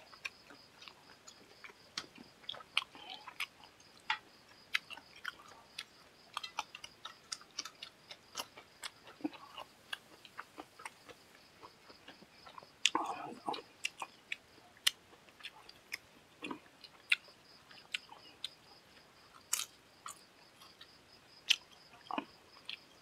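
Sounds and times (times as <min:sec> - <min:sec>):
mouth chewing food: 0:00.0 - 0:23.0.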